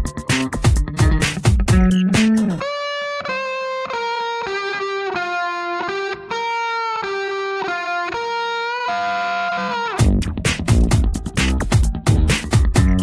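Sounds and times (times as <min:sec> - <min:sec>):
electric guitar melody: 0:00.0 - 0:13.0.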